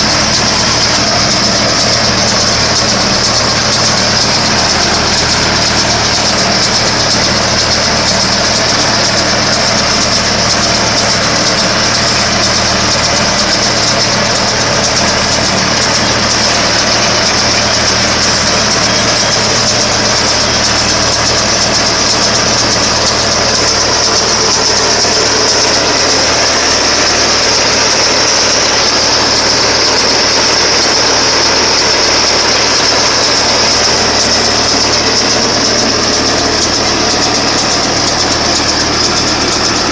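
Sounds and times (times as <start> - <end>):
constant high whine: 0.0 - 39.9
tractor engine drone: 0.0 - 39.9.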